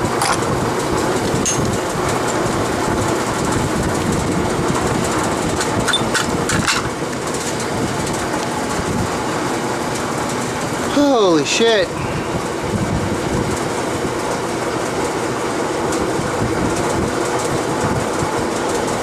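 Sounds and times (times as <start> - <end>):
machine rattling and humming: 0.0 - 19.0.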